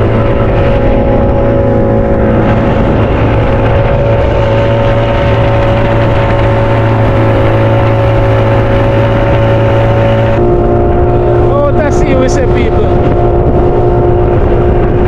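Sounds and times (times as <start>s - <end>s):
outboard motor hum: 0.0s - 15.0s
water rushing past hull: 0.0s - 15.0s.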